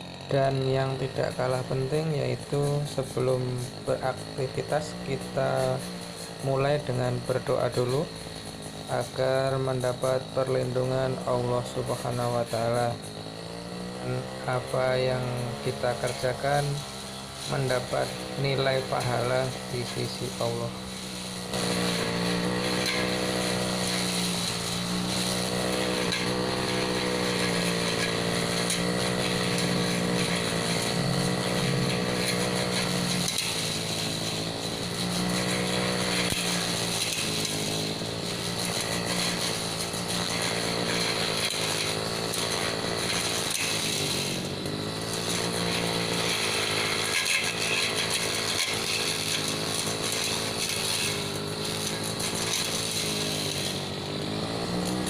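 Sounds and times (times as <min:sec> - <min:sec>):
brush cutter cutting hedge: 0:00.0 - 0:55.0.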